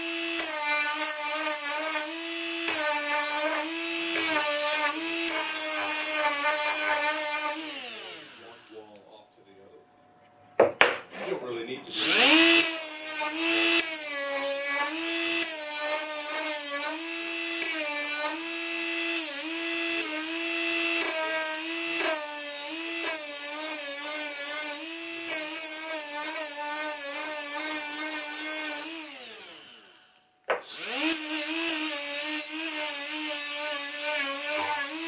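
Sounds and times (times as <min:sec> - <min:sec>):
power tool motor whining: 0:00.0 - 0:08.9, 0:11.9 - 0:35.0.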